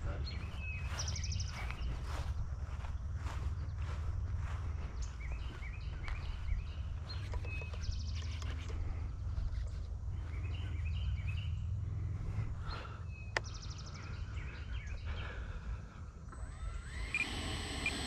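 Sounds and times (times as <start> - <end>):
birds singing: 0.0 - 18.0
steady low rumble: 0.0 - 18.0.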